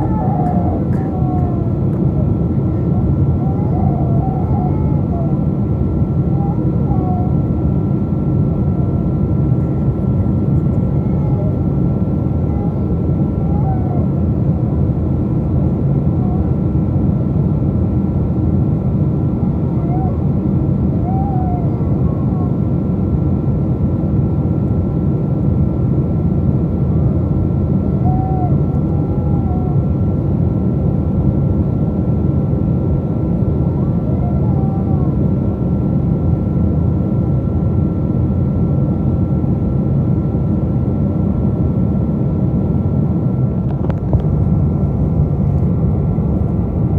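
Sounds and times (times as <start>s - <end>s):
jet engine rumble in cabin: 0.0s - 46.9s
thin constant whine: 0.0s - 46.9s.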